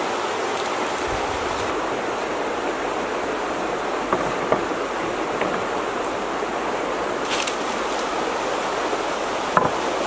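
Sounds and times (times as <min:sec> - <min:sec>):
steady rushing hiss: 0:00.0 - 0:10.0.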